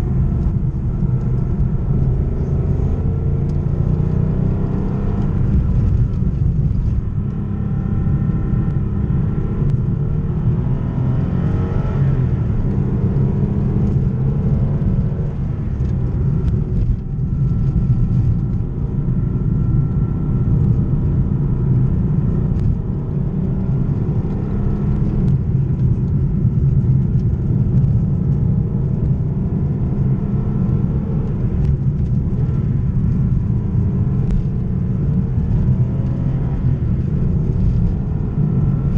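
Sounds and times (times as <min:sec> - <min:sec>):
car engine revving from cabin: 0:00.0 - 0:38.9.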